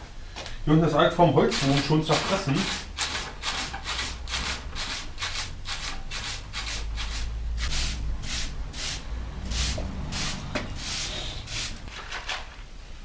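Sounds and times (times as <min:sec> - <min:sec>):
broom sweeping hard floor: 0:01.5 - 0:12.2.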